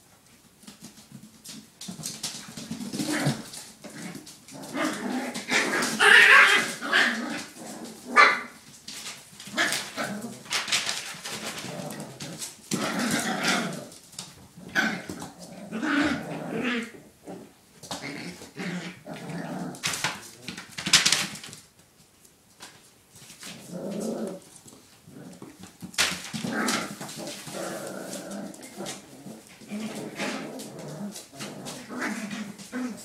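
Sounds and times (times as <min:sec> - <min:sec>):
puppies growling and yapping: 0:01.9 - 0:20.7, 0:23.4 - 0:33.0.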